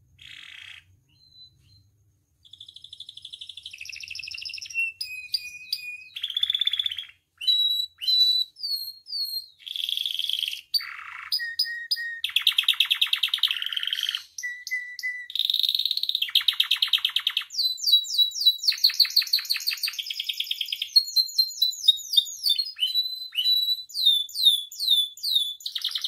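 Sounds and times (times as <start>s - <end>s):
canary singing: 0.2s - 26.0s.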